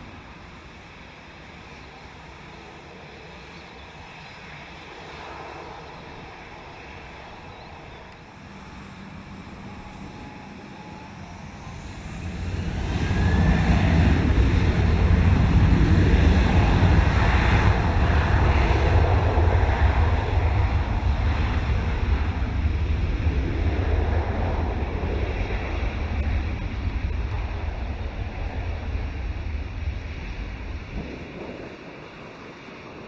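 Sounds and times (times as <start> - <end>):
jet engine roar: 0.0 - 33.0
jet engines spooling up whine: 0.0 - 33.0.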